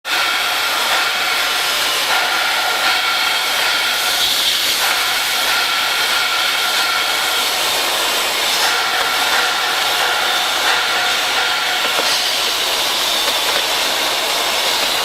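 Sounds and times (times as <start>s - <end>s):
cutting torches hissing: 0.1s - 15.0s.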